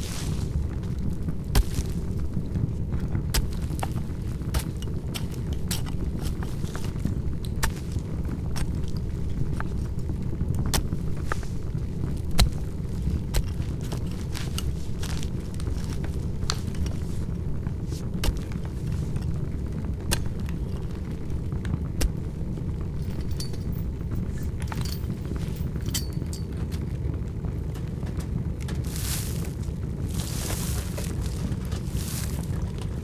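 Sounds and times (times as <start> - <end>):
fire crackling and rumbling: 0.0 - 33.0.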